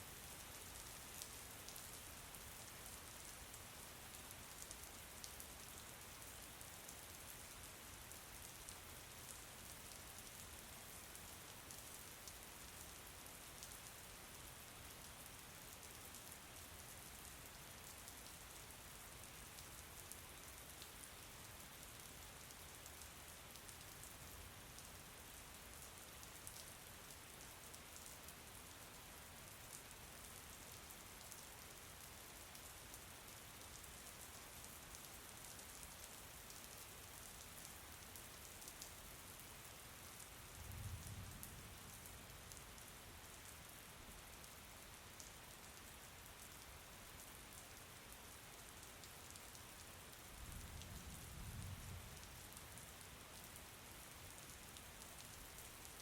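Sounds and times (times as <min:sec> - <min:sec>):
soft rain pattering: 0:00.0 - 0:56.0.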